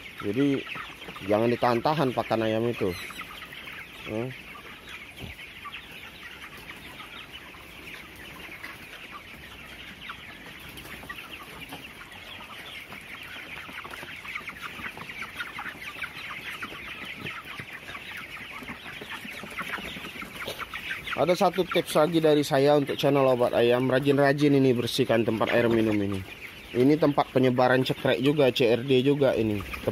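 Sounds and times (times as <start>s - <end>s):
chickens cheeping: 0.0s - 29.9s.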